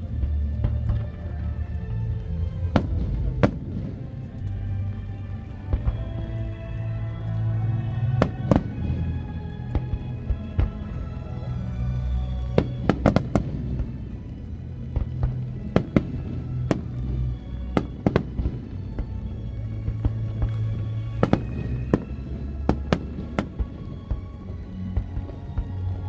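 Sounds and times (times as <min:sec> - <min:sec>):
music: 0:00.0 - 0:26.0
fireworks bursting: 0:02.3 - 0:26.0.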